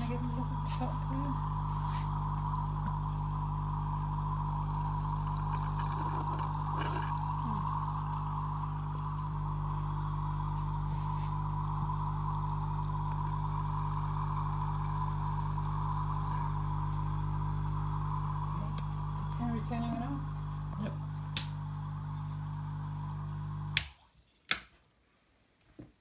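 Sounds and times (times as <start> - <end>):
air bubbling through water: 0.0 - 23.8
air pump humming: 0.0 - 23.9.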